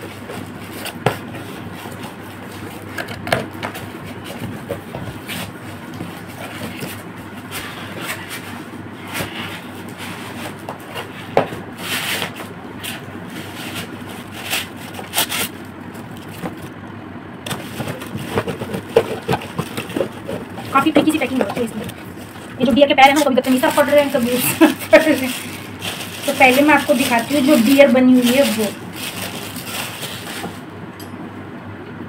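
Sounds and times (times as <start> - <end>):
cardboard flaps rustling and scraping: 0.0 - 16.8, 17.5 - 30.6.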